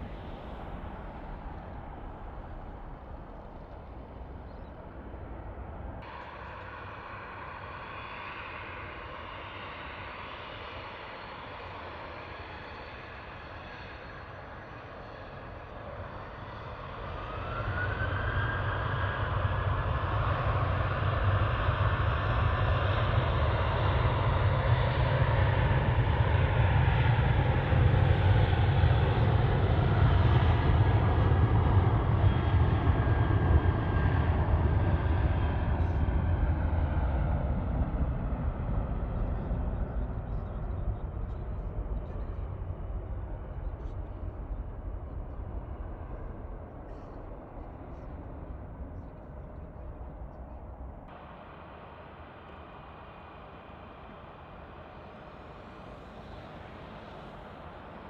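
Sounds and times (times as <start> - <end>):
deep jet engine rumble: 0.0 - 58.0
jet engine whine rising: 0.0 - 58.0.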